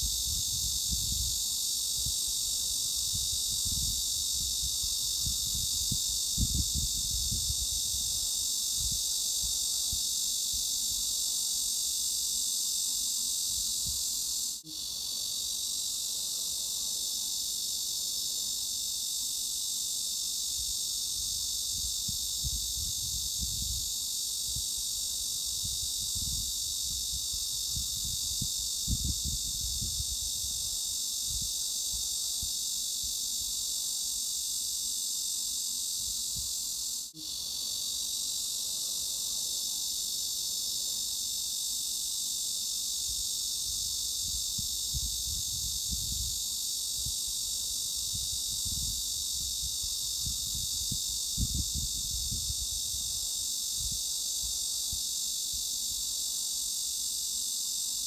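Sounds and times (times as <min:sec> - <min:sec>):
cicada drone: 0:00.0 - 0:58.0.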